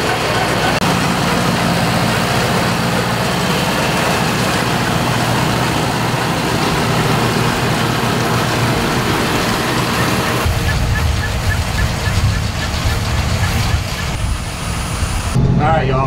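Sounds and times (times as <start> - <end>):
round baler running: 0.0 - 16.0
tractor engine running: 0.0 - 16.0.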